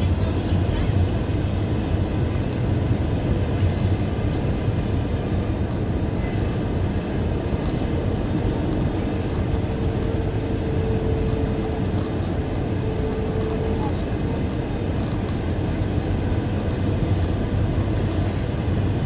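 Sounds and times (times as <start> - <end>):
jet engine and airflow rumble: 0.0 - 19.0.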